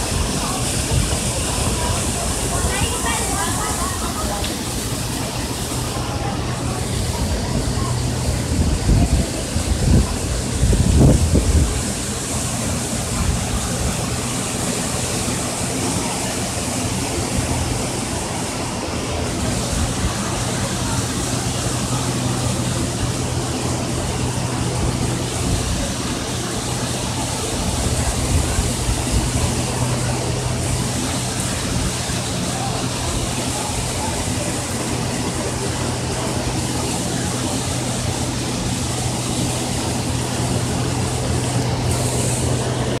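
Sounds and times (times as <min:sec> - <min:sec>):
rush of falling water: 0:00.0 - 0:43.0.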